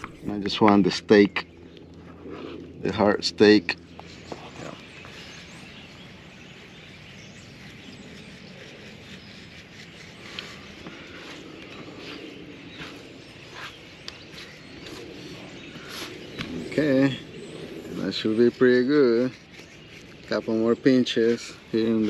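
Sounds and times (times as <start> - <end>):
outdoor ambience: 0.0 - 22.0
bird chirps: 3.7 - 22.0.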